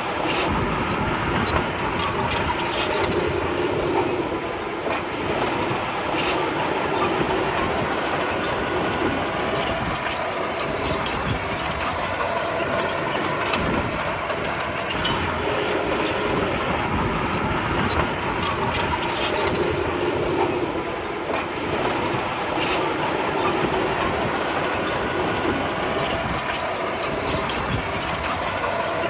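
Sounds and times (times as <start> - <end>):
bulldozer diesel engine running: 0.0 - 29.0
steel tracks clanking: 0.0 - 29.0.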